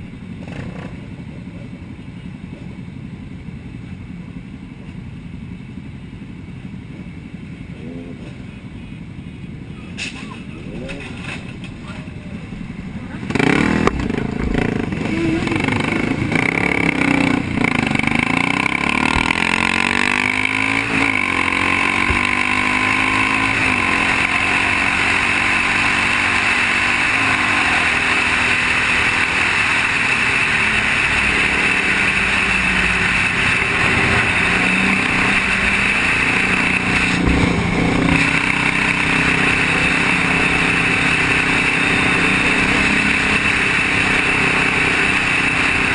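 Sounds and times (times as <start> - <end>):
motorcycle engines revving: 0.0 - 45.9
wind and road noise: 0.0 - 45.9.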